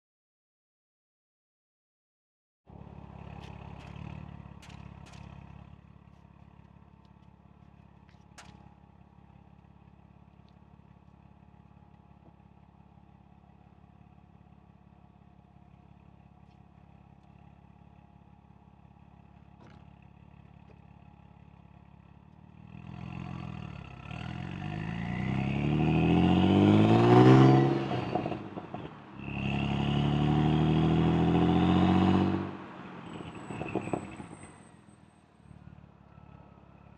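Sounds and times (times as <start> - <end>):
car engine idling and revving: 2.7 - 36.9.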